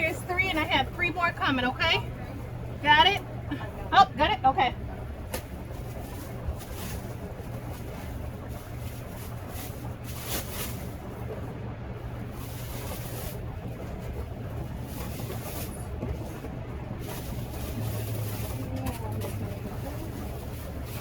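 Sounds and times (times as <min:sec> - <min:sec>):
low mechanical hum: 0:00.0 - 0:21.0
outdoor background noise: 0:00.0 - 0:21.0.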